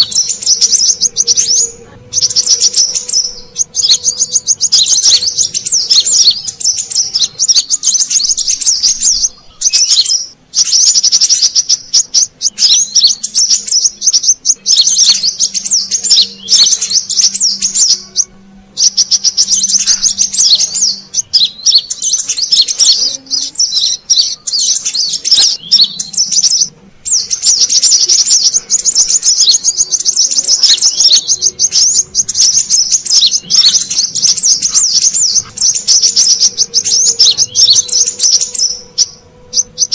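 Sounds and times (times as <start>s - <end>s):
high-pitched bird twittering: 0.0s - 39.9s.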